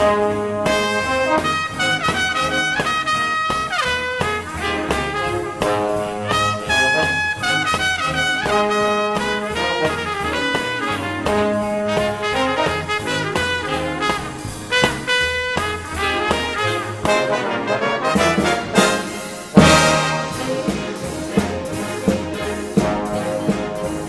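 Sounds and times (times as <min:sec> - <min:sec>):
brass instrumental music with beat: 0:00.0 - 0:24.0.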